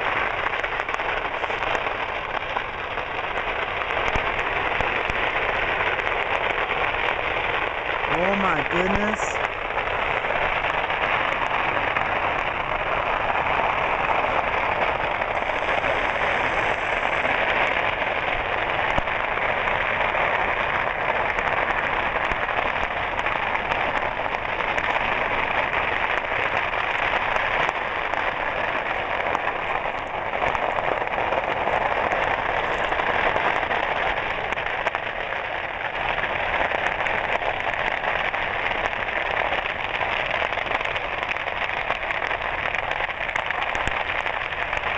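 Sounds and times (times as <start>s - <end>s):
fireworks crackling and popping: 0.0s - 44.9s.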